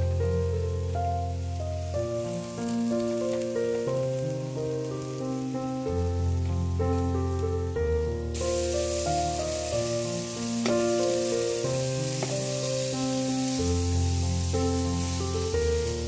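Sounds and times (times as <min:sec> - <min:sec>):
calm instrumental music: 0:00.0 - 0:16.0
food sizzling in a pan: 0:00.0 - 0:16.0.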